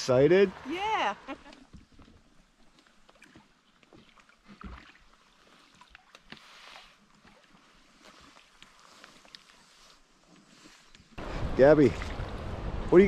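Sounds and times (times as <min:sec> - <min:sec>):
water lapping and trickling: 0:00.0 - 0:13.0.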